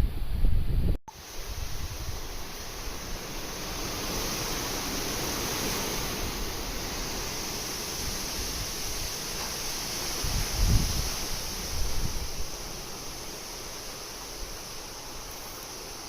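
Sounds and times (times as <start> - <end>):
storm wind rushing: 0.0 - 13.8.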